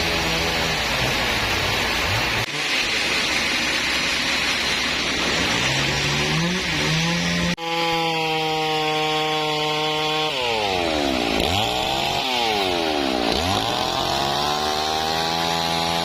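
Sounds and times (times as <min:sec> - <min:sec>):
engine saw cutting timber: 0:00.0 - 0:16.0.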